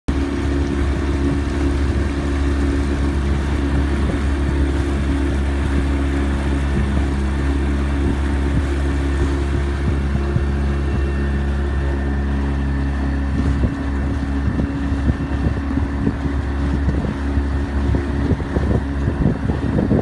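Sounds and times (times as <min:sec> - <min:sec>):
boat engine droning: 0:00.1 - 0:20.0
water rushing along hull: 0:00.1 - 0:20.0.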